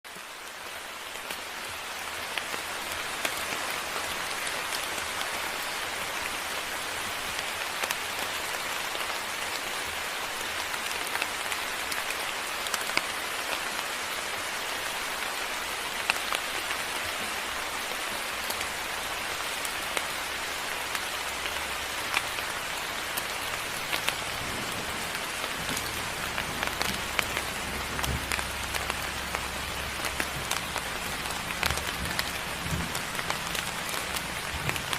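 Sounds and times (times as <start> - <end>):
rain falling: 0.0 - 34.9
raindrops ticking: 0.1 - 34.9.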